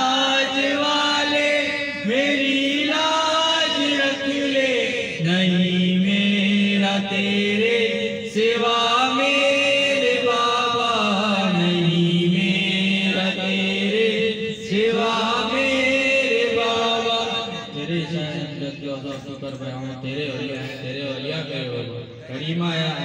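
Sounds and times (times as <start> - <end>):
men chanting devotional melody: 0.0 - 23.0.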